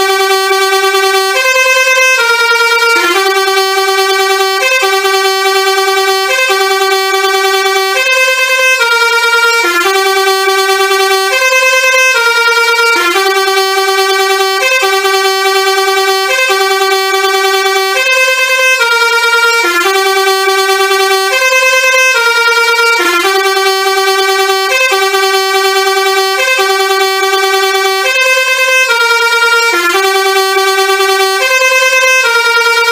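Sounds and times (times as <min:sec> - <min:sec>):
musical bus horn playing a tune: 0:00.0 - 0:32.9.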